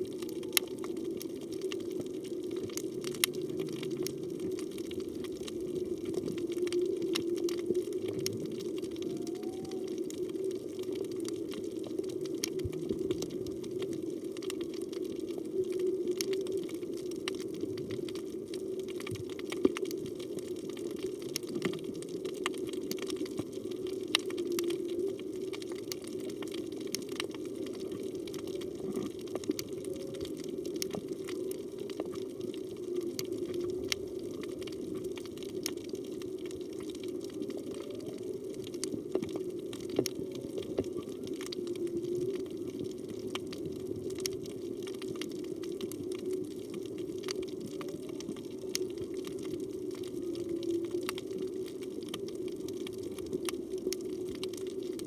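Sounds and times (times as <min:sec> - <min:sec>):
crackling clicks: 0:00.0 - 0:55.0
underwater rush of water: 0:00.0 - 0:55.0.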